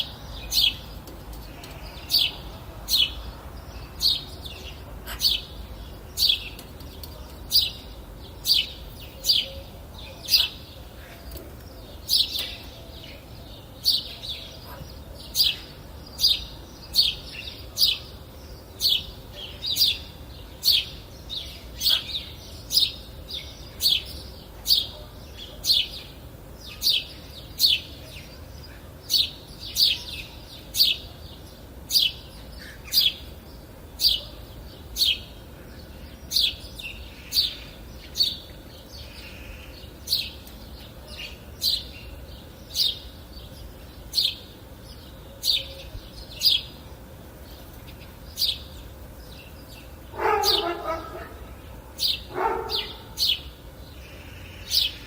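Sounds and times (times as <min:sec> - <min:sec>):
faint low background noise: 0:00.0 - 0:55.0
songbird chirping: 0:00.0 - 0:55.0.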